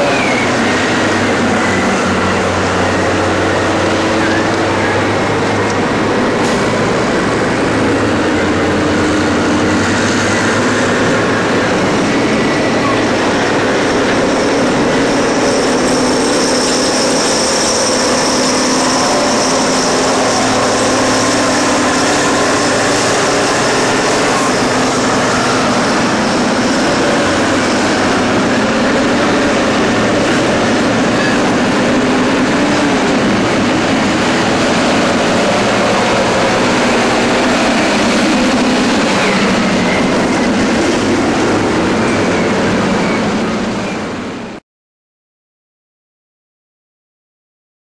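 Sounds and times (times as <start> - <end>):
heavy diesel engines droning: 0.0 - 44.6
high whine: 0.0 - 44.6.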